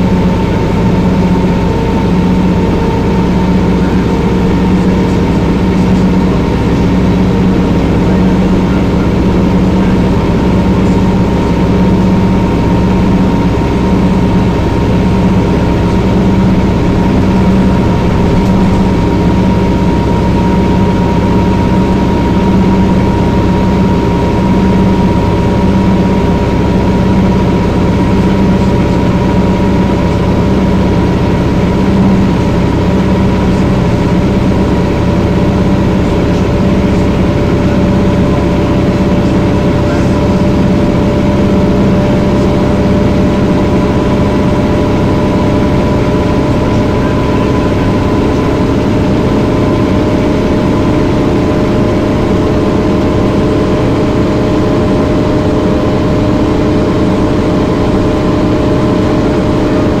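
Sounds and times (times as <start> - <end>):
bus diesel engine drone: 0.0 - 60.0
steady whine: 0.0 - 60.0.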